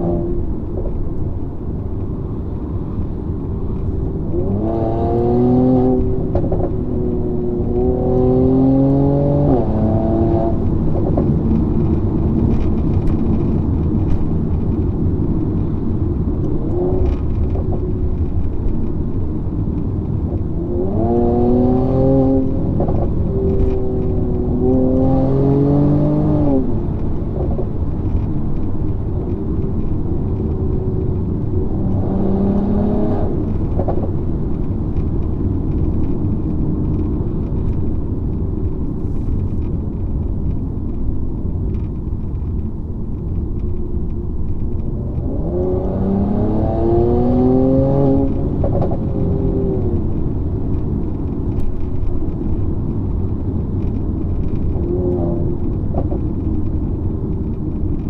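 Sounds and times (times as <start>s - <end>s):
car engine accelerating: 0.0s - 58.0s
road and tyre rumble: 0.0s - 58.0s.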